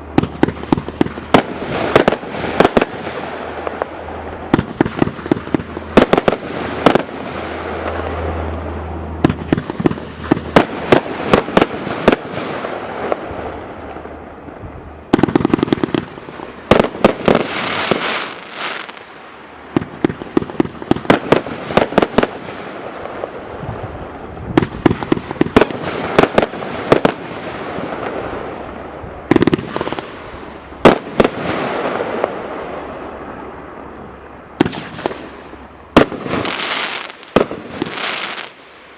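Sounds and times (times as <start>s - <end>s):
firework bangs: 0.0s - 38.9s
firework crackling hiss: 0.0s - 38.9s.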